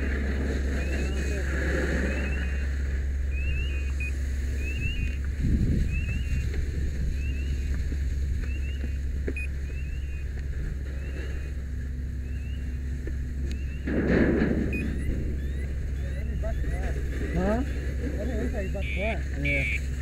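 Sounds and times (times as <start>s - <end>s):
fire engine pump droning: 0.0s - 5.4s, 6.0s - 20.0s.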